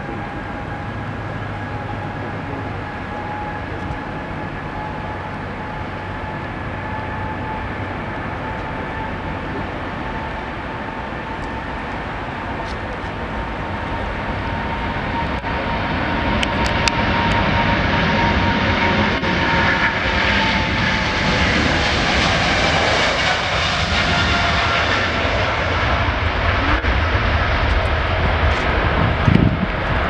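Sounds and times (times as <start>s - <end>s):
jet engine roar: 0.0s - 30.0s
jet engine whine: 0.0s - 30.0s.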